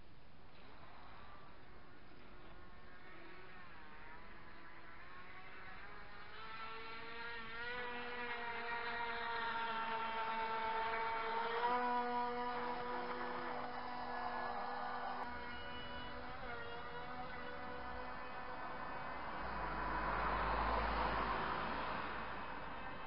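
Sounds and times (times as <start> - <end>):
model speedboat motor whining: 1.2 - 23.0.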